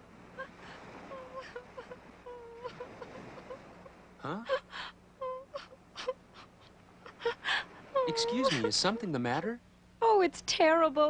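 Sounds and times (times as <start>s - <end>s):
young woman sobbing: 0.4s - 9.3s.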